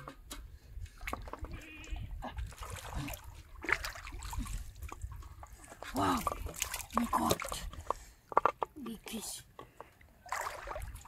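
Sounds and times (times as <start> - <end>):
river water sloshing and splashing: 0.0 - 8.8, 9.6 - 11.0.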